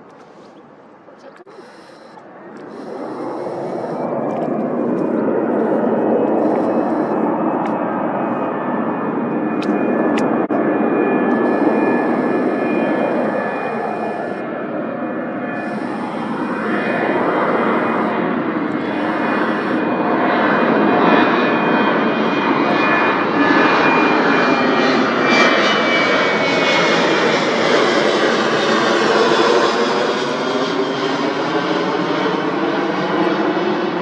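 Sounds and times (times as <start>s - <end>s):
jet airliner passing: 0.0s - 34.0s
thin high engine whine: 0.0s - 34.0s.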